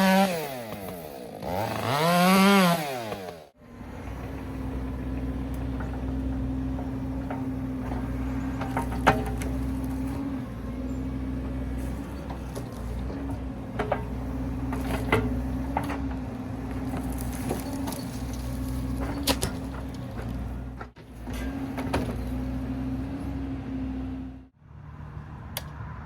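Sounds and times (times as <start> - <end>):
engine running at low speed: 3.5 - 26.0.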